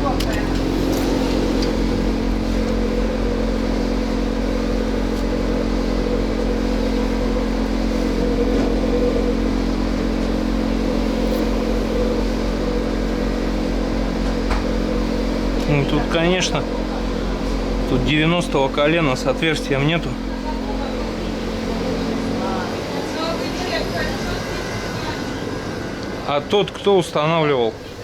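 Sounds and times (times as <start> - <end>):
machine motor humming: 0.0 - 28.0.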